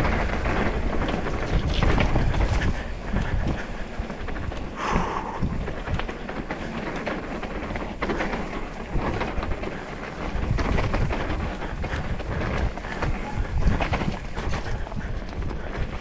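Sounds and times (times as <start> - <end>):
bike knocking and rattling: 0.0 - 16.0
wind rumbling on microphone: 0.0 - 16.0.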